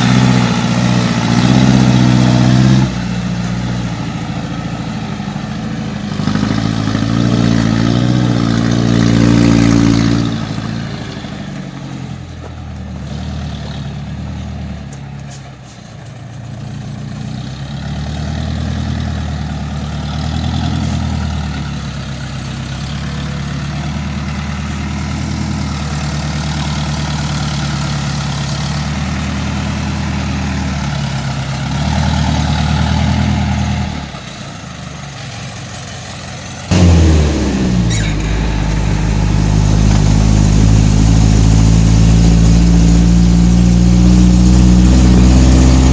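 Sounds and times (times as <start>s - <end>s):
truck diesel engine running: 0.0s - 45.9s.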